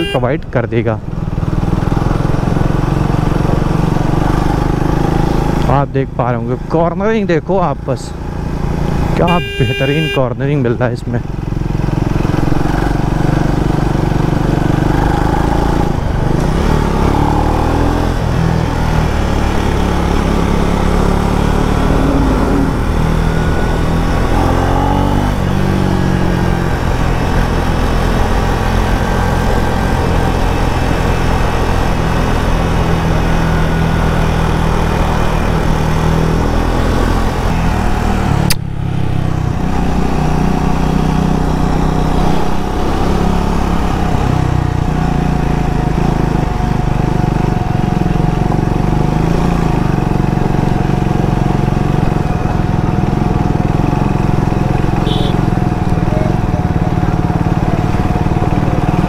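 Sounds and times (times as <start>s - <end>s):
wind and tyre noise: 0.0s - 59.0s
motorcycle engine running: 1.0s - 6.6s, 7.7s - 10.2s, 11.0s - 59.0s.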